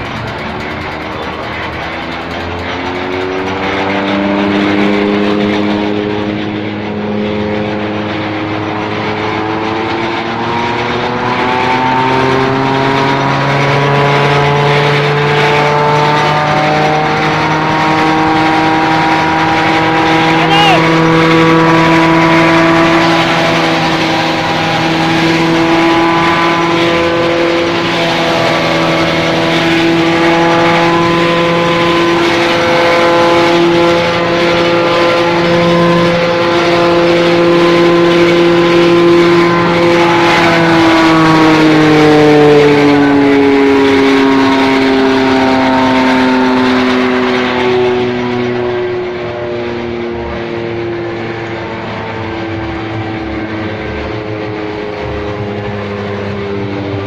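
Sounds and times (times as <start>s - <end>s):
tractor engine running hum: 0.0s - 57.0s.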